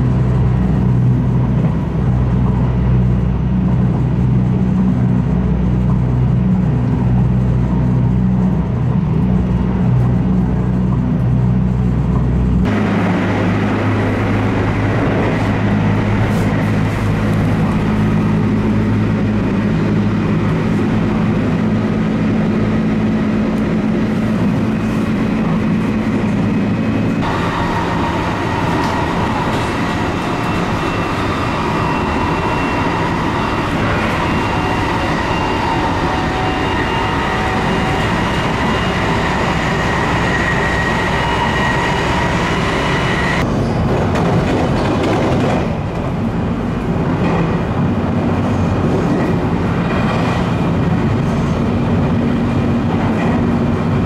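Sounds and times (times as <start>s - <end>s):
high whine: 0.0s - 43.5s
train car hum: 0.0s - 54.0s
train wheels rumbling on rail: 0.0s - 54.0s.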